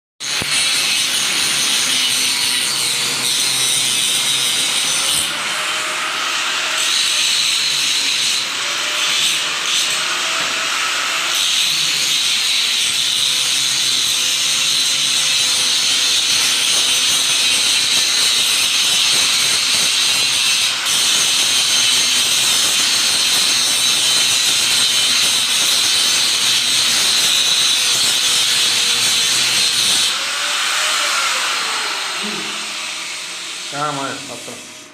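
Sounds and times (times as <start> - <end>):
angle grinder grinding steel: 0.2 - 34.9.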